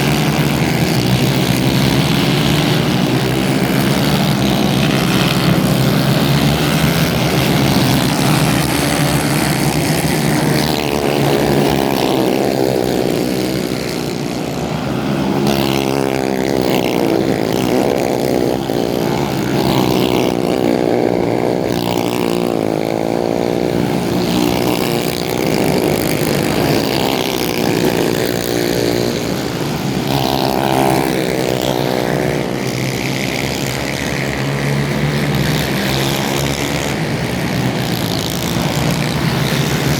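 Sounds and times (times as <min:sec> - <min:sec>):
racing kart engines revving: 0:00.0 - 0:39.9.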